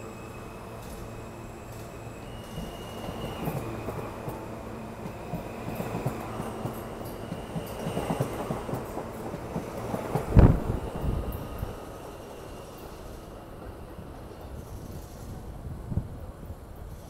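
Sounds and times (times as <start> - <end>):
subway train rolling past: 0.0 - 17.0.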